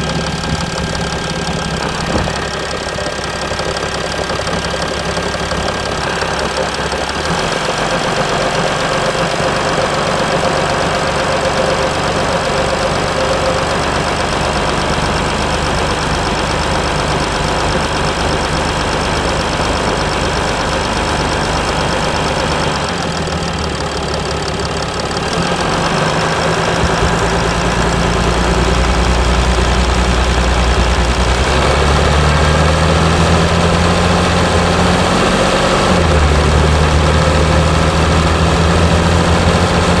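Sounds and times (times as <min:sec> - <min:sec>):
diesel engine idling roughly: 0:00.0 - 0:40.0.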